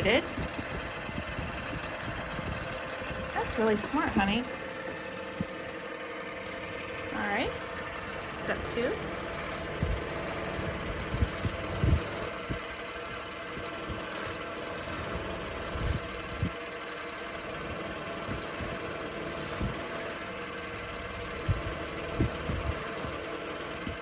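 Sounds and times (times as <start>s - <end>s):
wood lathe motor running: 0.0s - 24.0s.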